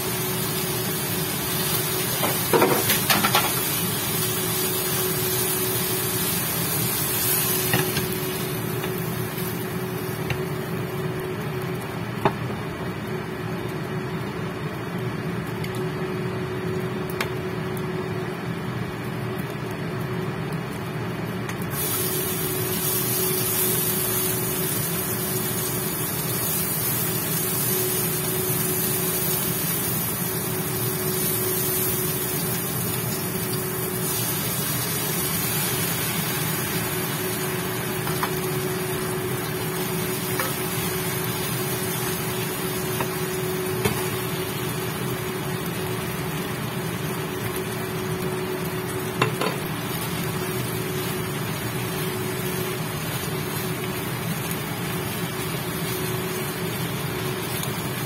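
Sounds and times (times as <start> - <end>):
fan hum: 0.0 - 58.0
onion sizzling in hot oil: 0.0 - 58.0.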